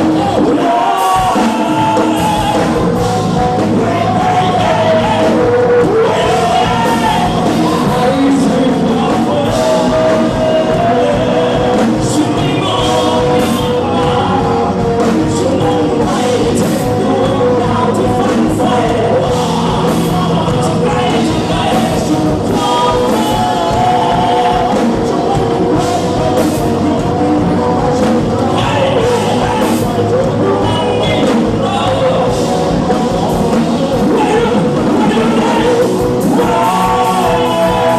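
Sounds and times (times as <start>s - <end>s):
lead singer singing: 0.0s - 37.9s
live rock band playing: 0.0s - 37.9s.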